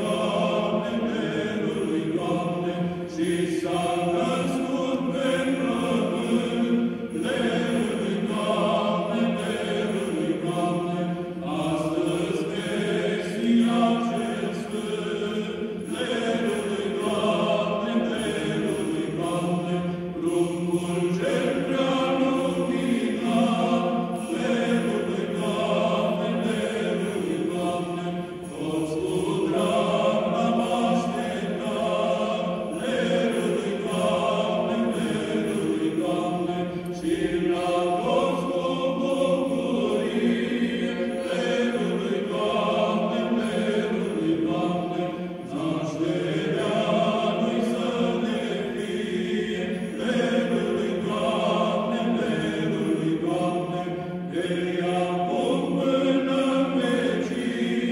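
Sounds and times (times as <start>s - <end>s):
male choir singing: 0.0s - 57.9s.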